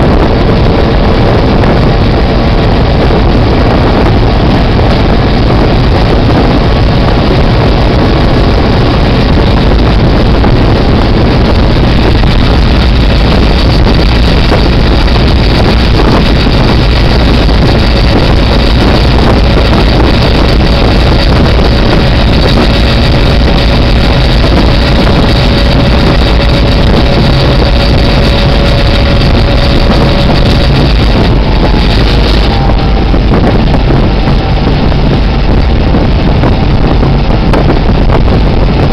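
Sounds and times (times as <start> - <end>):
locomotive engine rumble: 0.0 - 38.9
wind buffeting microphone: 0.0 - 38.9.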